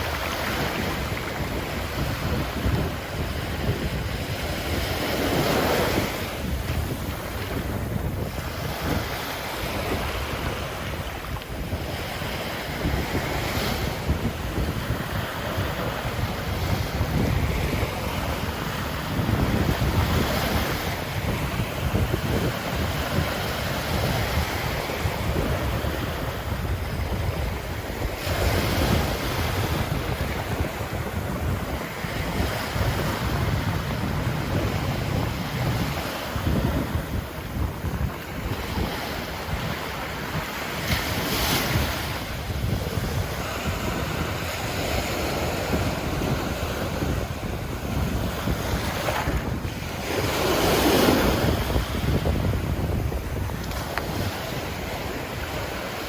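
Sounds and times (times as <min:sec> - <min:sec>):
surf breaking on beach: 0:00.0 - 0:56.0
wind buffeting microphone: 0:00.0 - 0:56.0.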